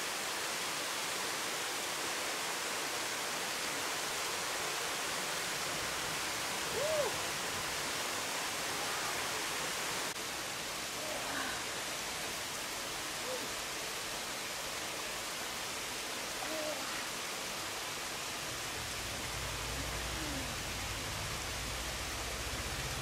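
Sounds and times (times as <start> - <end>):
waterfall and stream rushing: 0.0 - 23.0.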